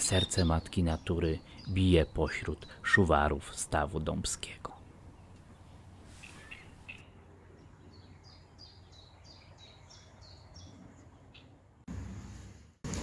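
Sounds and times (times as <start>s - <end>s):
small bird singing: 0.0s - 11.6s.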